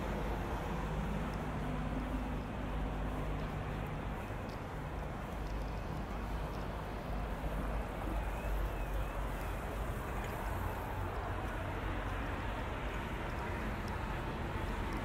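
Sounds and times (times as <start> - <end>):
continuous low rumble: 0.0 - 15.0.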